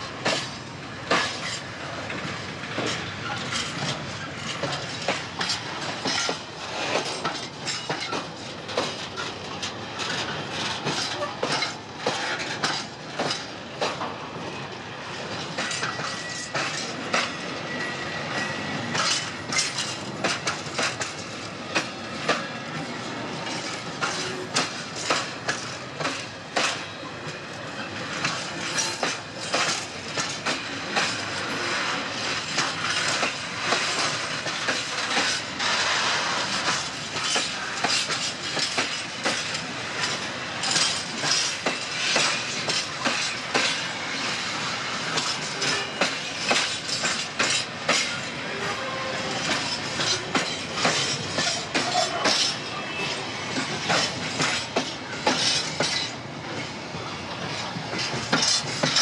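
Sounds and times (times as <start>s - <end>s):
wheels clacking over rail joints: 0.2s - 14.2s, 15.2s - 17.6s, 18.3s - 59.0s.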